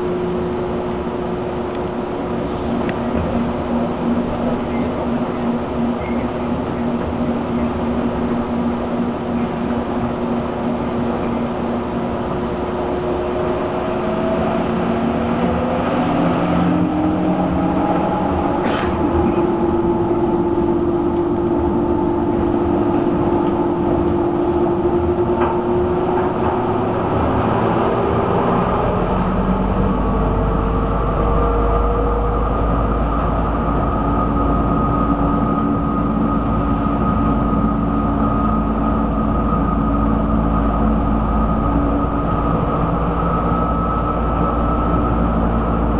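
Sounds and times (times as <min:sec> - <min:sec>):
deep rumble: 0:00.0 - 0:45.9
metro train traction motors whining: 0:00.0 - 0:45.9.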